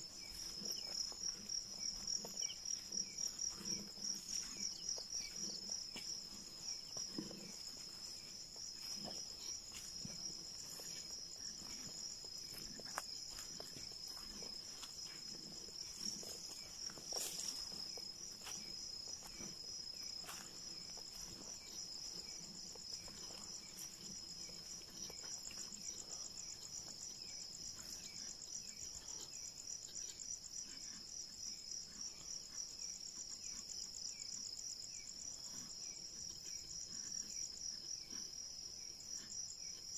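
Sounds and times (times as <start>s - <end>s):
crickets trilling: 0.0s - 39.9s
faint ticks and rustles: 0.0s - 39.9s.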